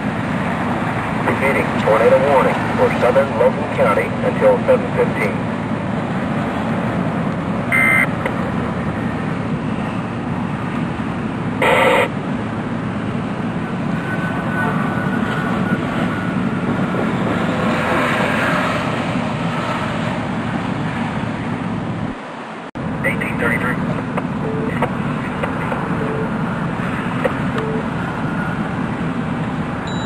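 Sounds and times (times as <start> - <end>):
passing traffic: 0.0 - 30.0.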